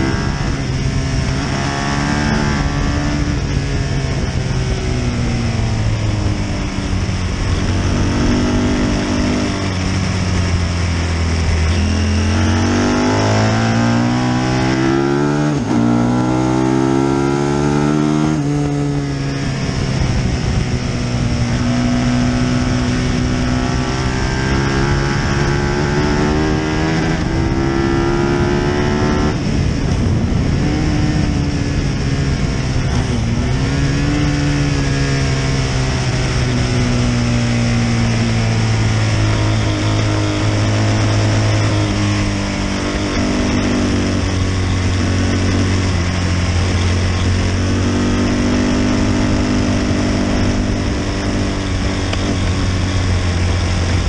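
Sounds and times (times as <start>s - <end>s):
motorcycle racing engine: 0.0s - 54.0s
wind and road rush: 0.0s - 54.0s.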